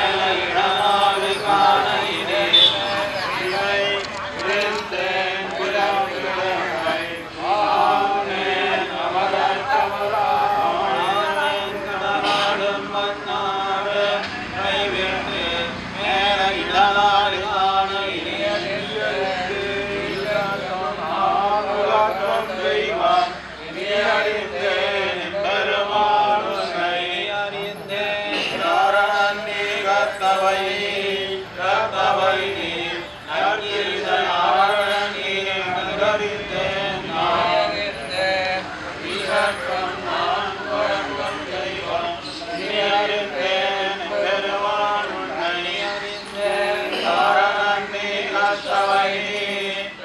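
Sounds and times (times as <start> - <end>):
men chanting hymns in unison: 0.0 - 50.0.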